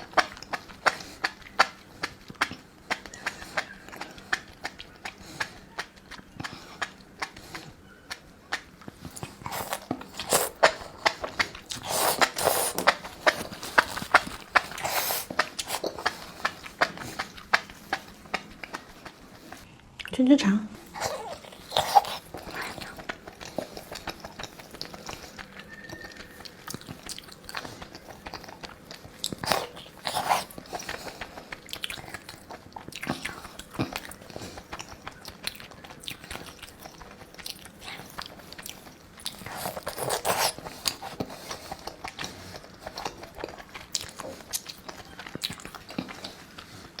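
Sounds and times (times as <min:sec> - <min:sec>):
person chewing crunchy food: 0:00.0 - 0:19.7, 0:20.8 - 0:47.0.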